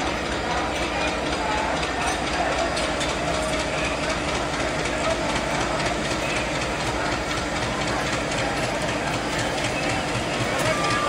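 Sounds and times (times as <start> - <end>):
train wheels running on rails: 0.0 - 11.0.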